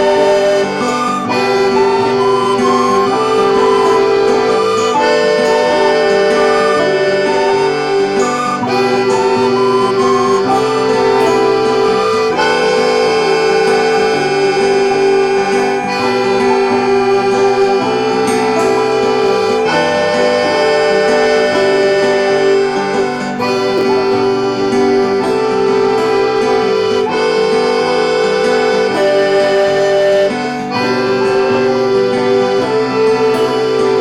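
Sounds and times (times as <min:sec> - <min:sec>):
free-reed instrument chords: 0:00.0 - 0:34.0
indie folk band accompaniment: 0:00.0 - 0:34.0.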